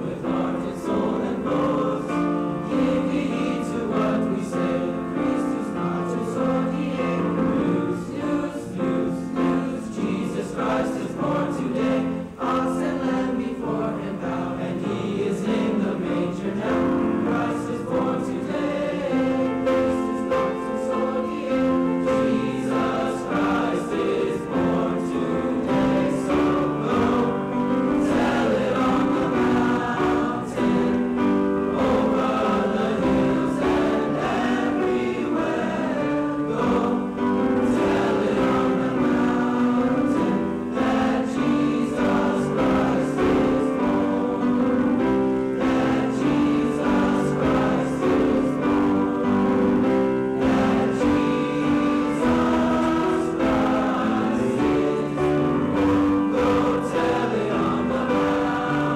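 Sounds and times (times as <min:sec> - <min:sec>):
choir singing held notes: 0:00.0 - 0:58.9.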